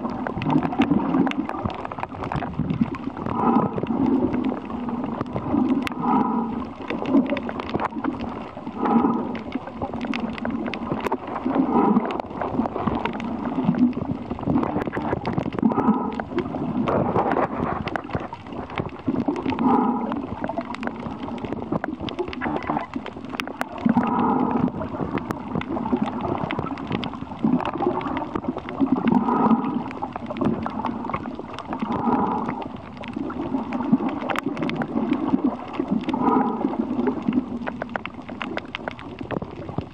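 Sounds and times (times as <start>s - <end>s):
constant water noise: 0.0s - 39.9s
exhaled bubbles gurgling underwater: 0.0s - 39.9s.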